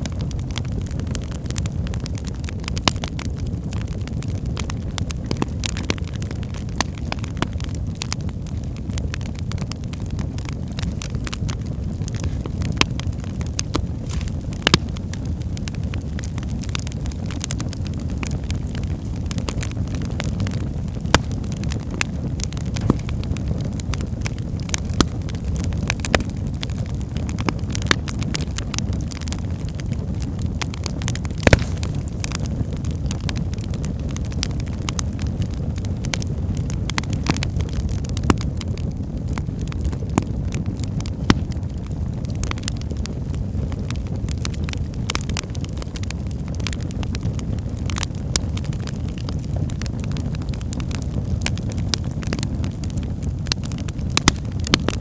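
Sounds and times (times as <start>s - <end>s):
wood fire crackling in fireplace: 0.0s - 55.0s.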